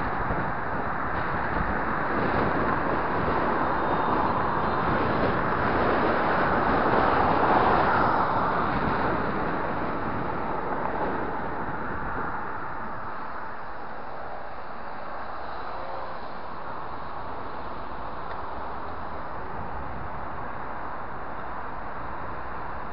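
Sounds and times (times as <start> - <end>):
cars on the road: 0.0 - 22.9
wind rushing over microphone: 0.0 - 22.9.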